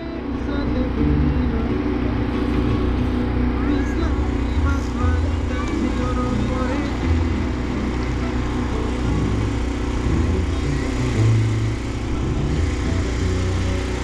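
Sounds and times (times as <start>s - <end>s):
small engine droning: 0.0s - 14.0s.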